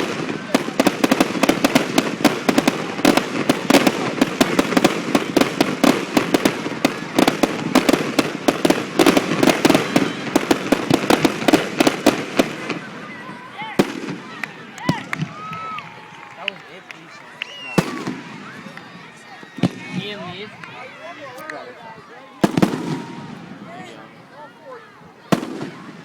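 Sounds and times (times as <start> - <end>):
fireworks bangs and crackles: 0.0 - 21.5, 22.3 - 23.9, 25.2 - 26.0.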